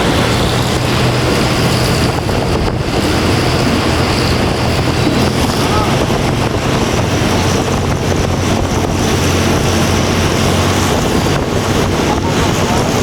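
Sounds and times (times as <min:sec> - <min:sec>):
diesel locomotive engine droning: 0:00.0 - 0:13.0
wind buffeting microphone: 0:00.0 - 0:13.0.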